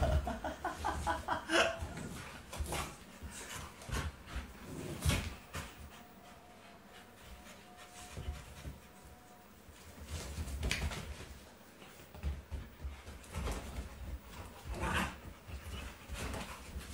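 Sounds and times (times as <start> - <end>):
dogs scuffling and panting: 0.0 - 16.9.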